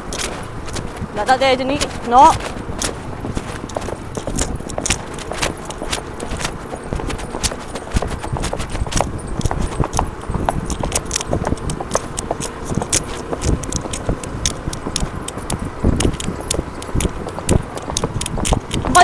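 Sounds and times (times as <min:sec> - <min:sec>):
horse hooves on dirt: 0:00.0 - 0:19.0.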